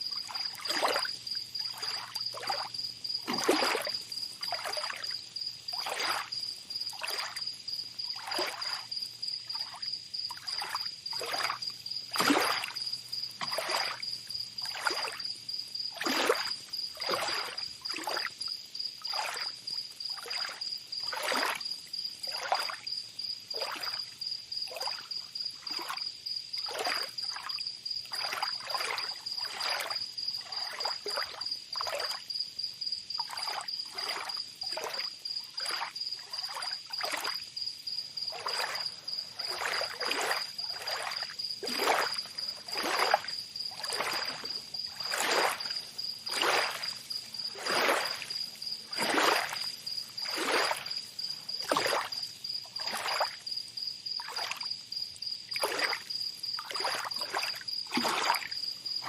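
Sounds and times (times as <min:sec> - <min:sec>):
small waves lapping: 0:00.0 - 0:32.3, 0:33.2 - 0:53.6, 0:54.2 - 0:54.7, 0:55.4 - 0:59.0
insects trilling: 0:00.0 - 0:59.0.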